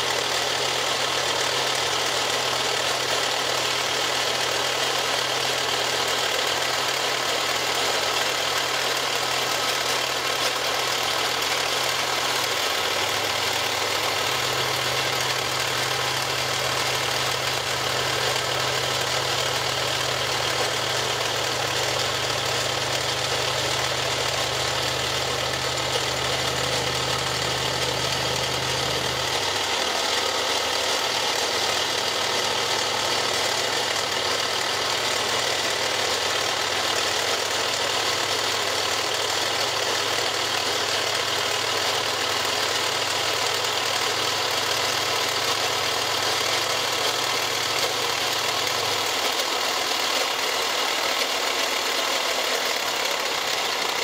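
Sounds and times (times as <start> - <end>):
milling machine cutting plastic: 4.8 - 54.0.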